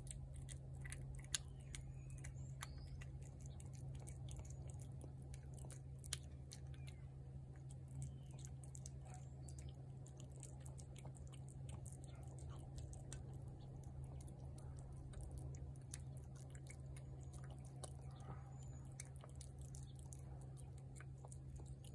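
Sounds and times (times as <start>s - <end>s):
cat chewing wet food: 0.0s - 21.9s
steady low hum: 0.0s - 21.9s.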